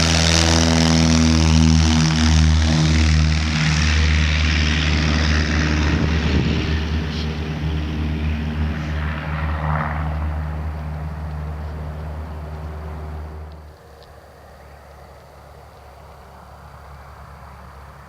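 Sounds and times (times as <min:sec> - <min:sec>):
propeller engine running: 0:00.0 - 0:18.0.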